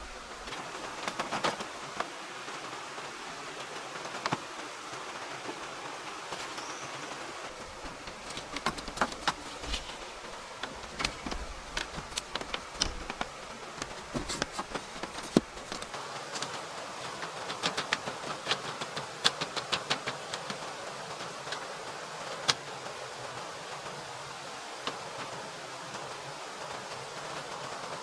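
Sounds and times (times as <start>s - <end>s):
background hiss: 0.0s - 28.0s.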